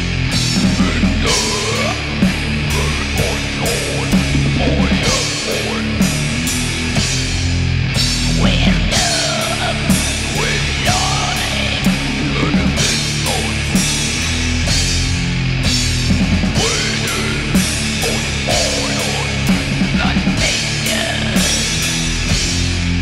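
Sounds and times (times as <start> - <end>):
distorted guitar and bass riffing: 0.0 - 23.0
drum kit: 0.0 - 23.0.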